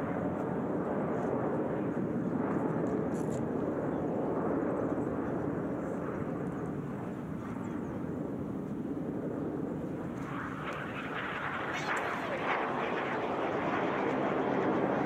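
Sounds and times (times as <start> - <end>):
jet aircraft roaring overhead: 0.0 - 15.0.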